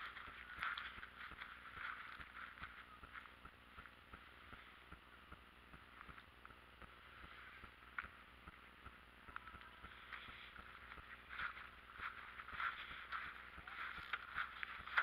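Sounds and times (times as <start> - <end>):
light irregular ticks: 0.0 - 15.0
soft hiss: 0.0 - 15.0.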